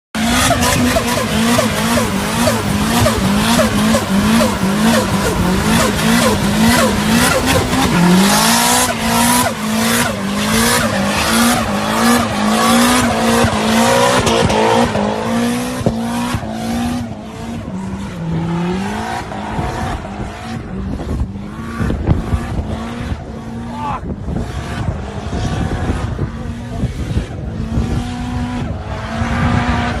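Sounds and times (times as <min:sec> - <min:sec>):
car engine at high revs: 0:00.1 - 0:30.0.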